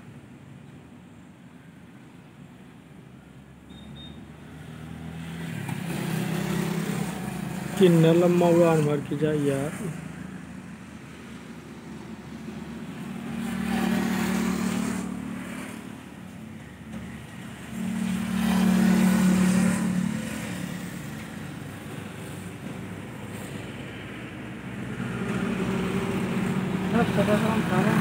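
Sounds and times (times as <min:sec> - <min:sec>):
vehicles passing on road: 0:00.0 - 0:28.0.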